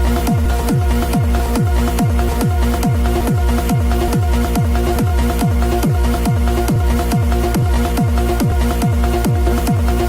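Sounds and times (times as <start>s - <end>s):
electronic dance music: 0.0s - 10.0s
kick drum beat: 0.0s - 10.0s.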